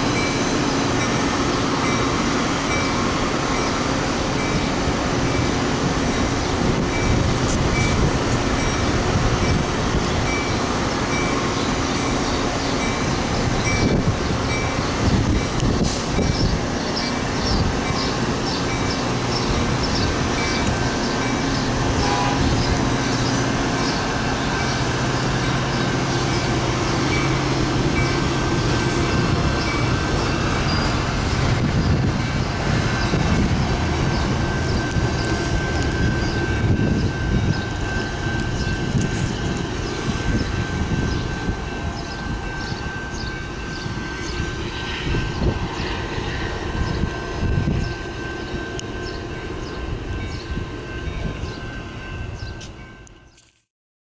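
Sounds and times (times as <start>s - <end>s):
train cars rumbling past: 0.0s - 53.5s.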